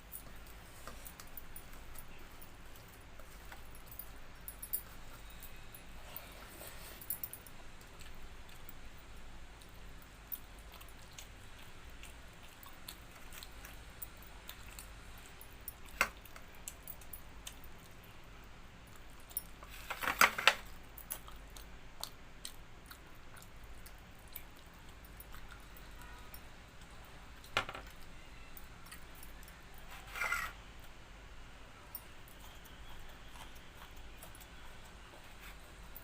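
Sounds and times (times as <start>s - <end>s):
quiet chewing: 0.1s - 19.9s, 20.6s - 31.0s, 32.0s - 36.0s.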